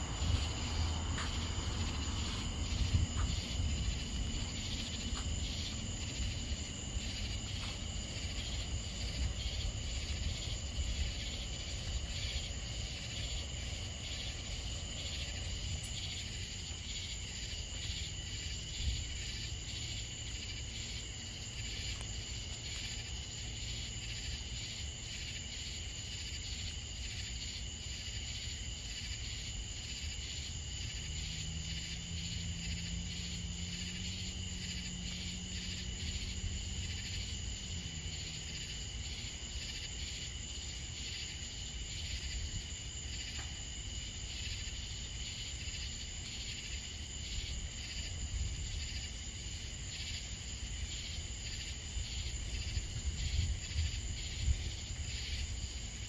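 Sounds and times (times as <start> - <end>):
crickets and insects chirping: 0.0 - 56.0.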